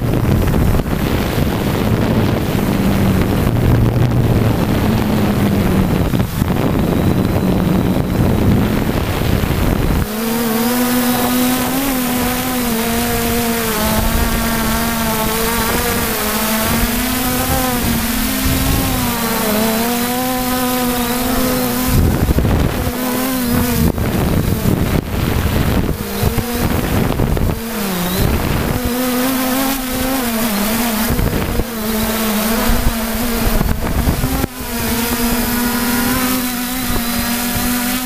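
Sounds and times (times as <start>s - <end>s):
drone motors buzzing: 0.0s - 38.0s
wind rumble on microphone: 0.0s - 38.0s.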